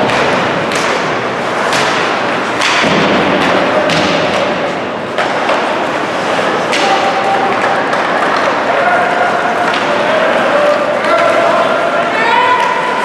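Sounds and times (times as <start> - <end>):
puck and stick thuds: 0.0 - 11.4
rink crowd din: 0.0 - 13.0.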